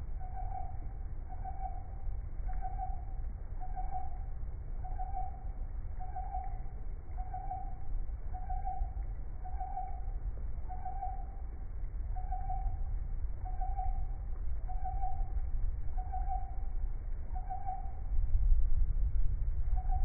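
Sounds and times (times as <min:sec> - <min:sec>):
constant low rumble: 0:00.0 - 0:20.0.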